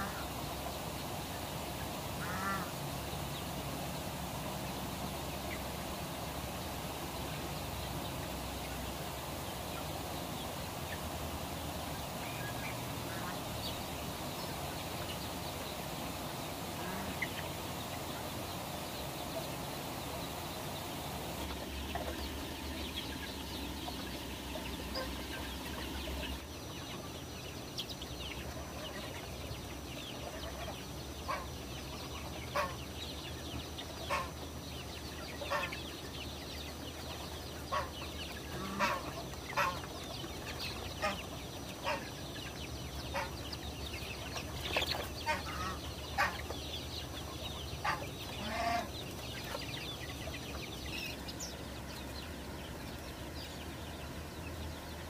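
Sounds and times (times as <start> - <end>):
young chickens clucking and peeping: 0.0 - 55.0.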